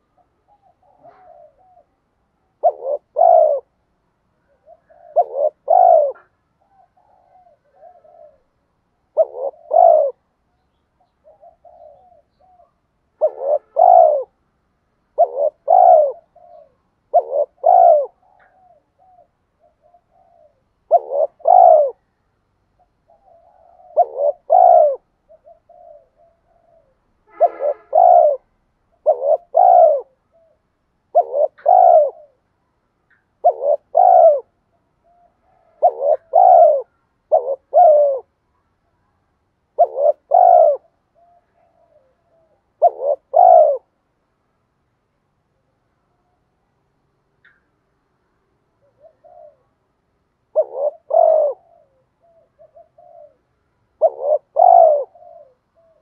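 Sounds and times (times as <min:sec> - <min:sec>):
dove cooing: 0:00.0 - 0:03.8, 0:04.4 - 0:10.3, 0:11.0 - 0:14.4, 0:15.1 - 0:22.2, 0:22.8 - 0:32.5, 0:33.1 - 0:38.4, 0:39.7 - 0:44.0, 0:48.7 - 0:49.9, 0:50.5 - 0:56.0.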